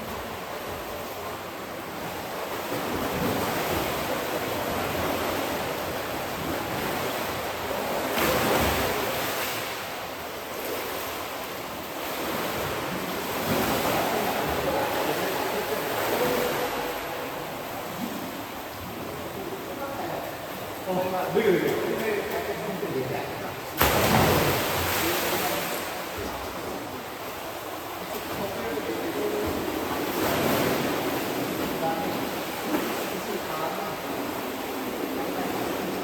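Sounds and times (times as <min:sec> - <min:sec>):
pool water splashing: 0:00.0 - 0:36.0.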